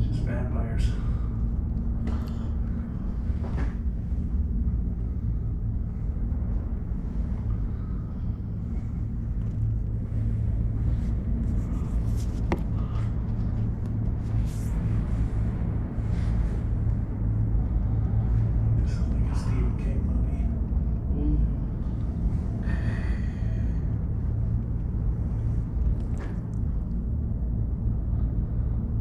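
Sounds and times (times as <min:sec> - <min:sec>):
gondola cabin rumble and hum: 0:00.0 - 0:29.0.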